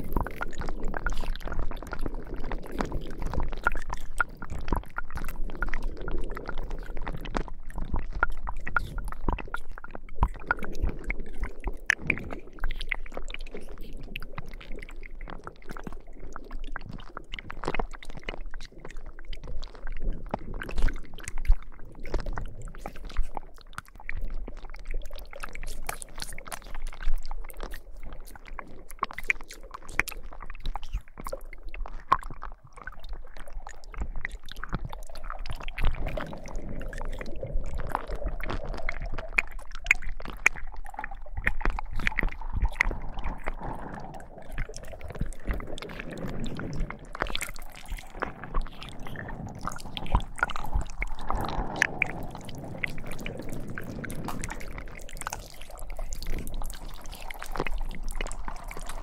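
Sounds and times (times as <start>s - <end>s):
slime squelching: 0.0s - 59.0s.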